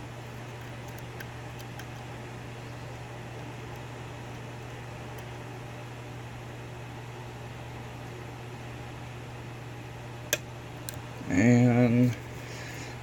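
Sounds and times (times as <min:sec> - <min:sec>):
low hum with hiss: 0:00.0 - 0:13.0.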